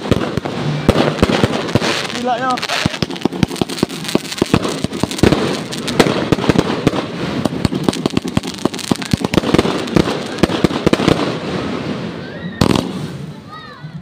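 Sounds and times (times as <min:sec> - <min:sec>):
crackling haze: 0:00.0 - 0:13.5
fireworks cracking and banging: 0:00.0 - 0:14.0.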